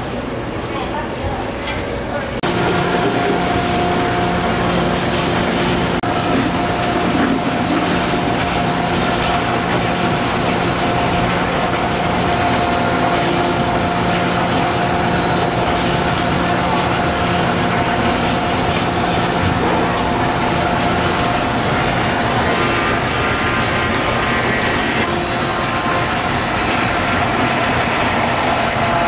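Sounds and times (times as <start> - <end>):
steady mechanical drone: 0.0 - 29.0.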